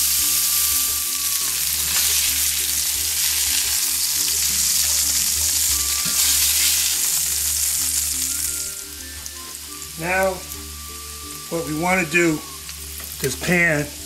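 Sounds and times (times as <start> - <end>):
fish searing in oil: 0.0 - 14.0.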